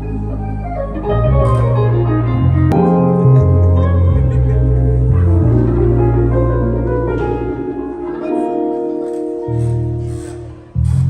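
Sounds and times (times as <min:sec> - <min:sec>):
instrumental music with chords: 0:00.0 - 0:11.0.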